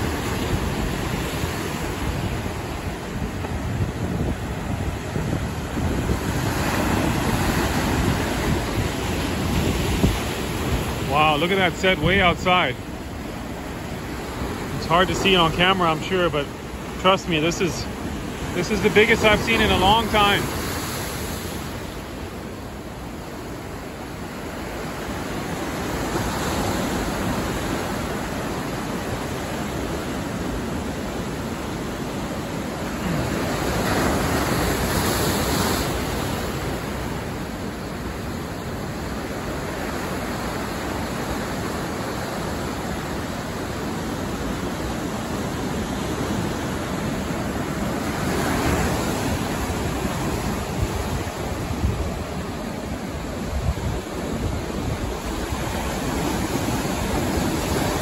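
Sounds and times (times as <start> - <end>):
surf waves crashing: 0.0 - 58.0.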